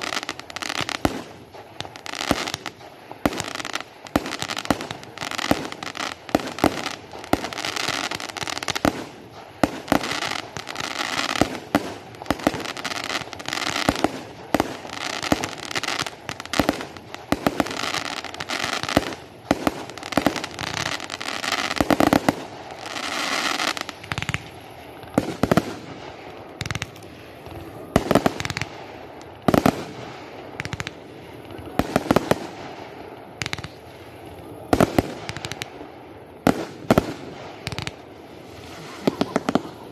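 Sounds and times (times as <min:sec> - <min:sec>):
fireworks bangs: 0:00.0 - 0:39.9
steady hiss: 0:00.0 - 0:39.9.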